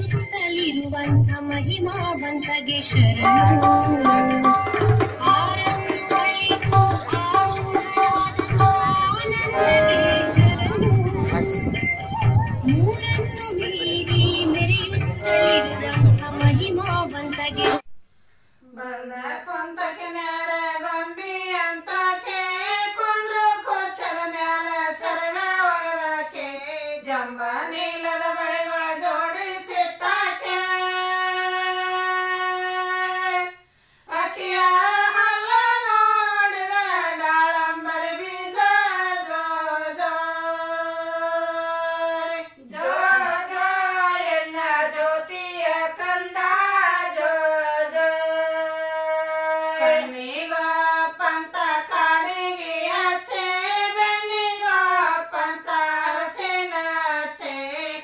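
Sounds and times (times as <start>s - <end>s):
person singing unaccompanied: 0.0s - 17.9s, 18.6s - 58.0s.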